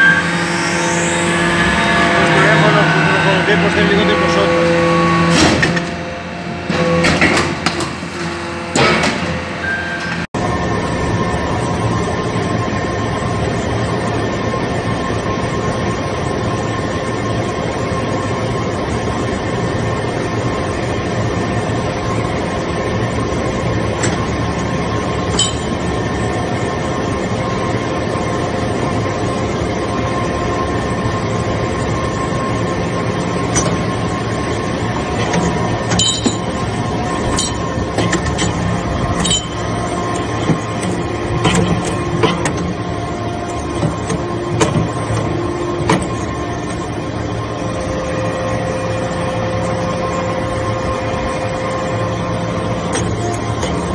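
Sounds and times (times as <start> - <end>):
hydraulic pump hum and whine: 0.0 - 53.9.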